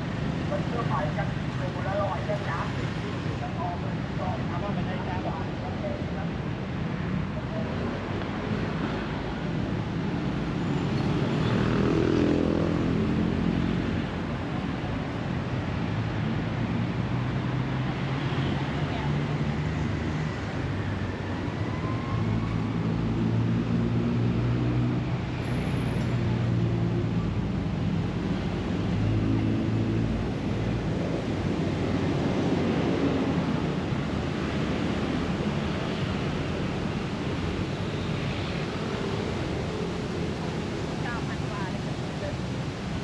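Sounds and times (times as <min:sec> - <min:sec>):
passing cars and motorbikes: 0:00.0 - 0:43.0.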